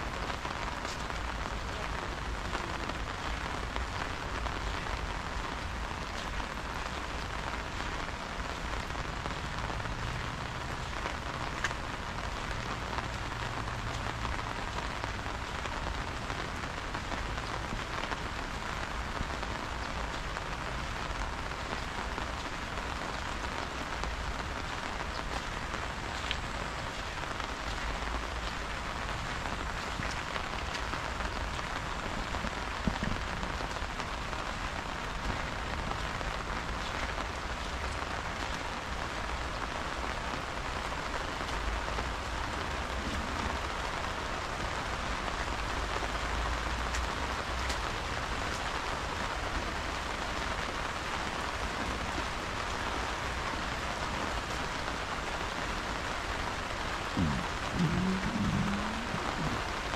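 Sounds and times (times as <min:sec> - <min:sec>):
rain drops ticking: 0:00.0 - 0:59.9
steady rain hiss: 0:00.0 - 0:59.9.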